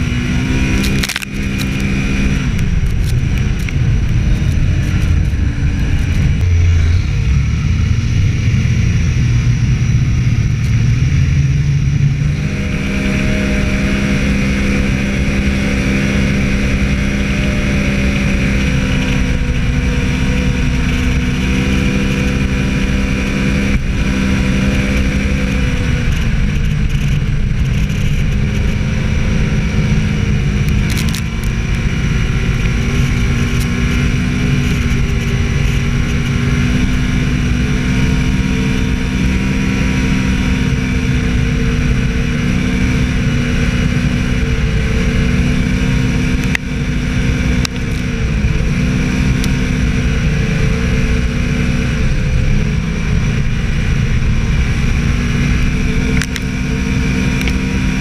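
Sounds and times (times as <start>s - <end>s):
snowmobile engine under throttle: 0.0s - 58.0s.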